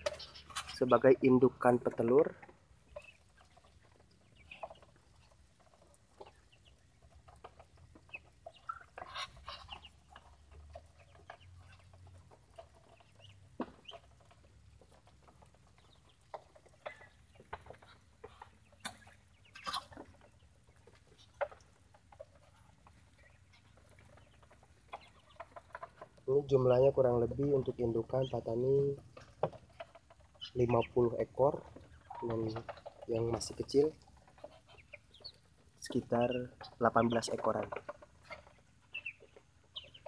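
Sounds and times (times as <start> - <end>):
ducks calling: 0.0 - 40.0.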